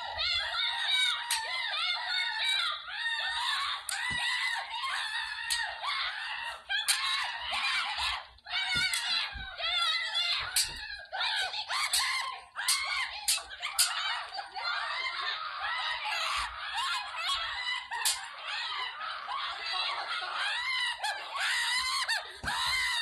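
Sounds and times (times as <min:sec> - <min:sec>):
children screaming and wailing: 0:00.0 - 0:23.0.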